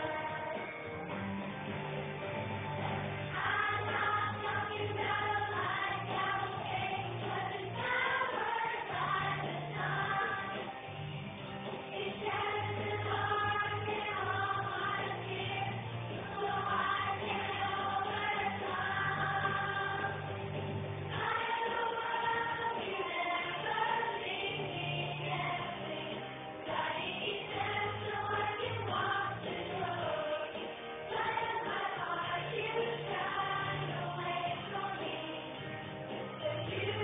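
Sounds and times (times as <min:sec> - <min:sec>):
children's choir singing: 0:00.0 - 0:00.9, 0:03.3 - 0:10.8, 0:11.9 - 0:20.3, 0:21.1 - 0:35.6, 0:36.4 - 0:37.0.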